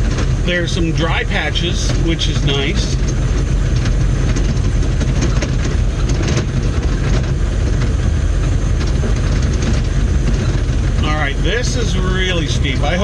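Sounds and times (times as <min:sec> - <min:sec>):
diesel engine droning inside cab: 0:00.0 - 0:13.0.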